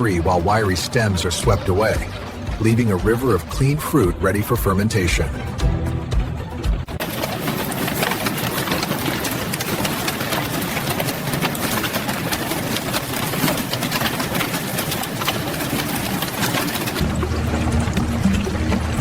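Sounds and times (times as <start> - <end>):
machine drum rattling: 0.0 - 19.0.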